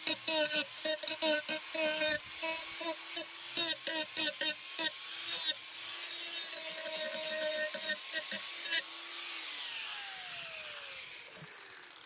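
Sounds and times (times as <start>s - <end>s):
electric grinder sanding wood: 0.0s - 12.0s.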